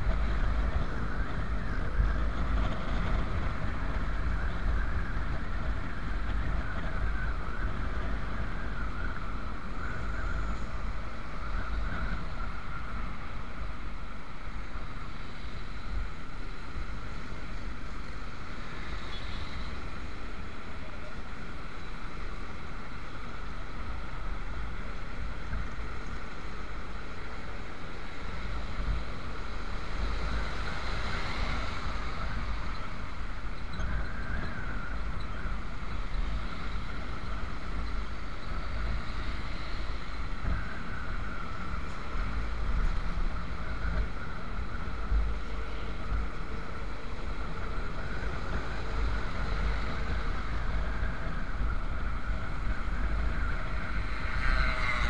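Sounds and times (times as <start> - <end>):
motorcycle engine and road noise: 0.0 - 55.0
wind buffeting microphone: 0.0 - 55.0.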